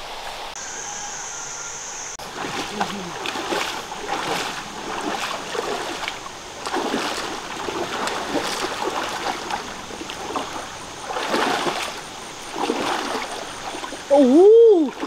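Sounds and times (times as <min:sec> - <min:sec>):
people wading and splashing: 0:02.2 - 0:15.0
stream running over rocks: 0:02.2 - 0:15.0.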